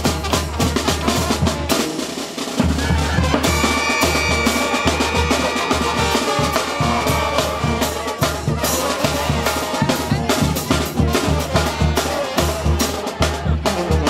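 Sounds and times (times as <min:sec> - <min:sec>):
brass band playing a tune: 0:00.0 - 0:14.0
steady drum beat: 0:00.0 - 0:14.0.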